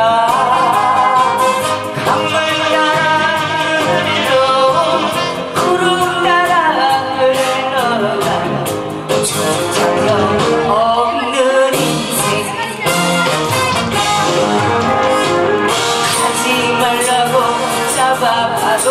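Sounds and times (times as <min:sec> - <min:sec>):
woman singing into microphone: 0:00.0 - 0:13.0, 0:15.8 - 0:18.9
instrumental accompaniment: 0:00.0 - 0:18.9.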